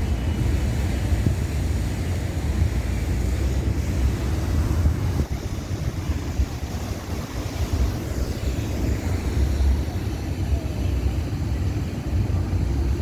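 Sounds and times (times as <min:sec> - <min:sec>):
street traffic hiss: 0:00.0 - 0:13.0
wind buffeting microphone: 0:00.0 - 0:13.0.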